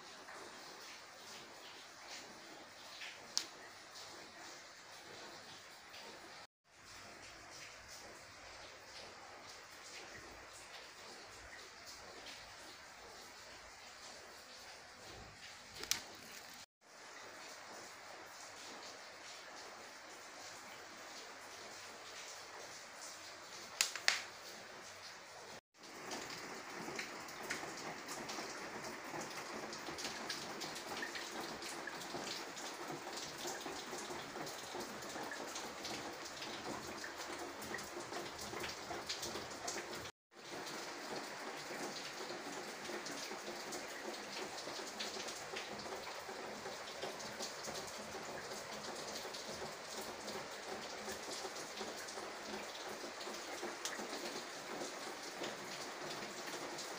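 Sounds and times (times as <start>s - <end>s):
steady rain pattering: 0.0s - 56.9s.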